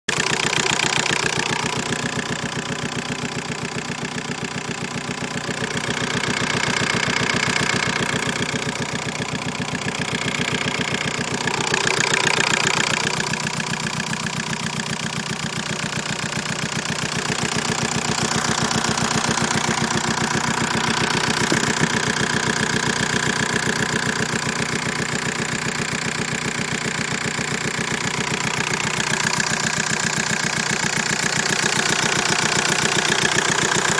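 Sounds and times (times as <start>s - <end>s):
engine idling with fast knocking: 0.1s - 33.9s.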